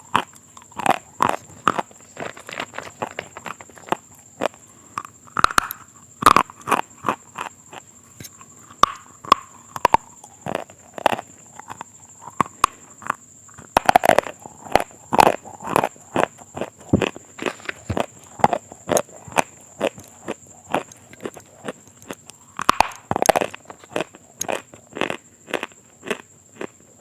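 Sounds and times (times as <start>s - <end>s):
crunchy food chewing: 0.0s - 27.0s.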